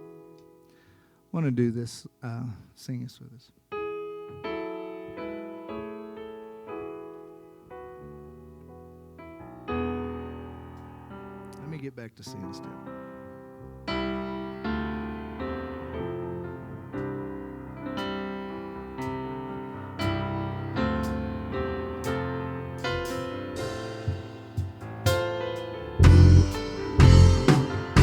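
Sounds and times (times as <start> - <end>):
electric piano slow chords: 3.8 - 11.7, 12.6 - 28.0.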